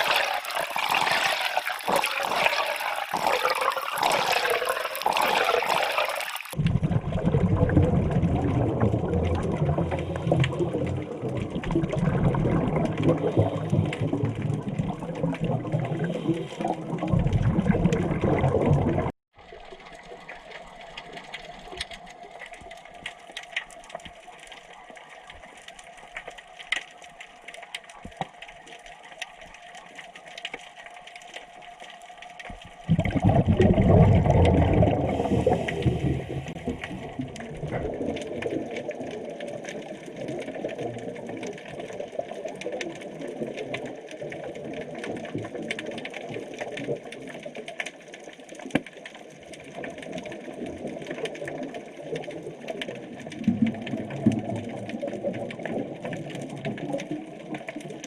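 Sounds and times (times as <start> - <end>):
rushing gush of water: 0.0 - 28.2, 29.0 - 58.0
underwater bubbling: 0.0 - 58.0
faint crackling clicks: 6.2 - 18.8, 19.5 - 58.0.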